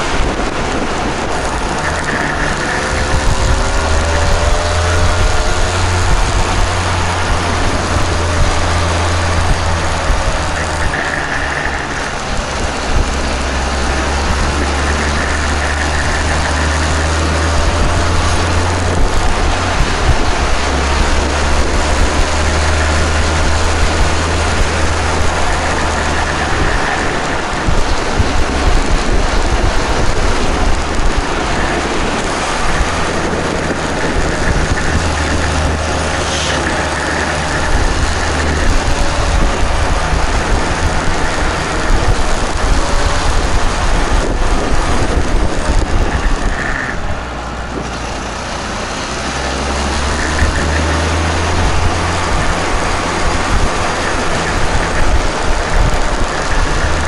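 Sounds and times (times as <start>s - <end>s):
two-stroke motorcycle engine revving: 0.0s - 57.0s
wind rush on microphone: 0.0s - 57.0s.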